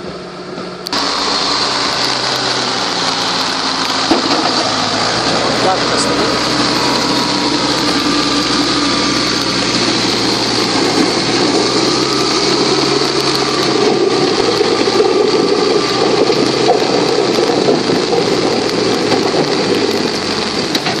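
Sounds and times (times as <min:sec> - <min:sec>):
diesel engine running: 0:00.0 - 0:21.0
steady rain: 0:00.0 - 0:21.0.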